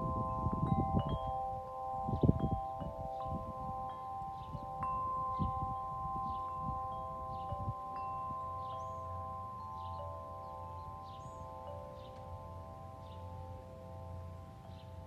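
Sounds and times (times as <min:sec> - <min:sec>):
wind chimes ringing: 0:00.0 - 0:15.0
wind rumbling on microphone: 0:00.0 - 0:15.0.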